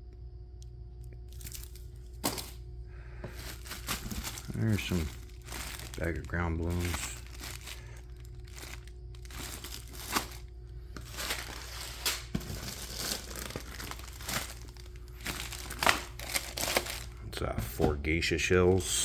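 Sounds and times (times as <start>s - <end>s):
sharp packaging crackles: 1.3s - 2.6s, 3.2s - 17.2s
plastic bags crinkling: 1.3s - 17.2s.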